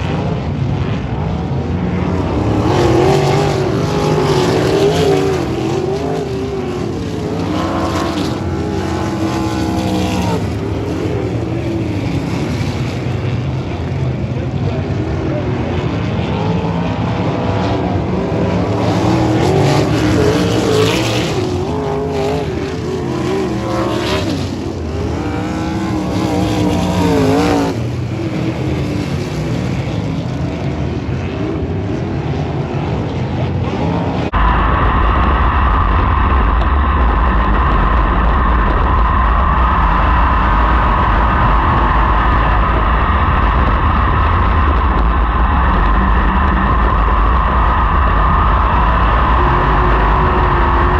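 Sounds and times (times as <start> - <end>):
race car engines passing: 0.0 - 50.9
steady engine drone: 0.0 - 50.9.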